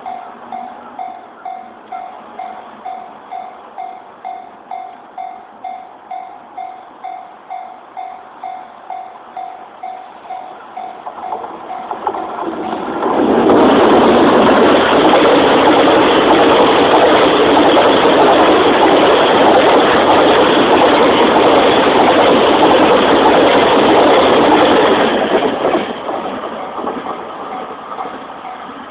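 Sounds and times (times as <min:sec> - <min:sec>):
train wheels rolling on rails: 0:00.0 - 0:28.9.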